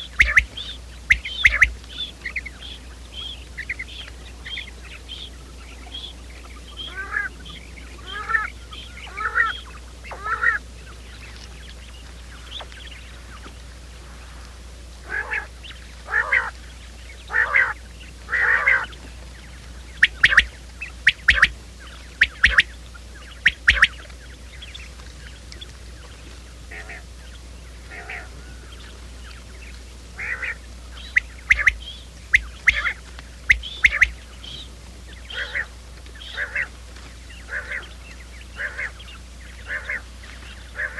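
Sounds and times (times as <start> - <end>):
quail calling: 0.0 - 40.9
steady low hum: 0.0 - 40.9.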